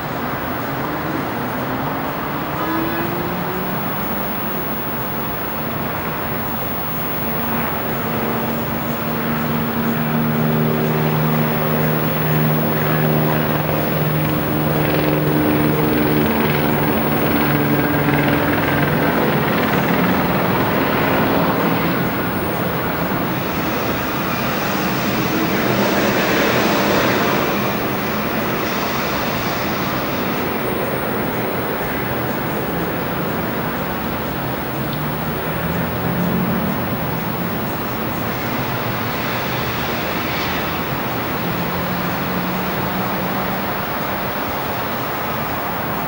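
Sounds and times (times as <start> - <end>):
droning hum: 0.0 - 46.0
vehicle engine rumble: 0.0 - 46.0.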